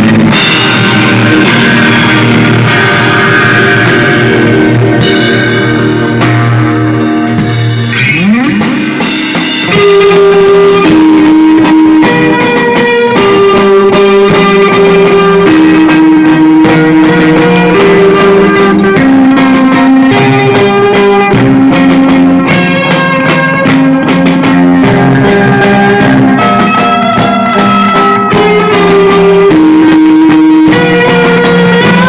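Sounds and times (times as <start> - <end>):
drums: 0.0 - 32.0
guitar lines: 0.0 - 32.0
loud band music: 0.0 - 32.0.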